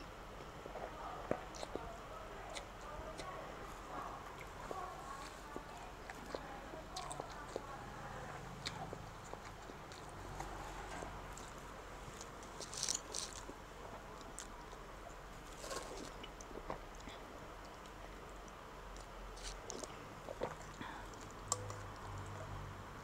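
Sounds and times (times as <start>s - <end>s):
person chewing noodles: 0.6s - 1.9s, 2.5s - 22.5s.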